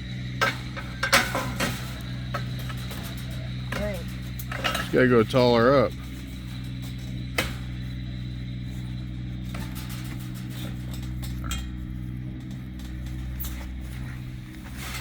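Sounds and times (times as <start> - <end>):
engine idling: 0.0 - 15.0
metallic clinks on fence posts: 0.0 - 15.0.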